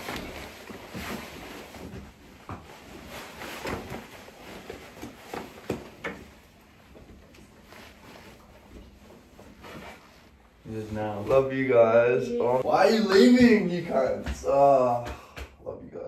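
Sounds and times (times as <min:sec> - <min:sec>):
fabric and strap rustling: 0:00.0 - 0:14.1.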